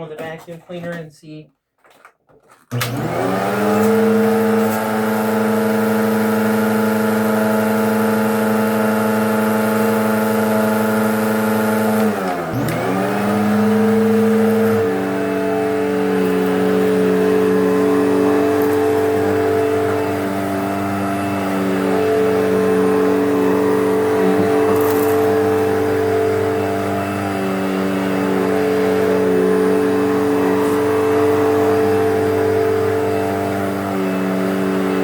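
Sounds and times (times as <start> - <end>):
vacuum motor whining: 2.7 - 35.0.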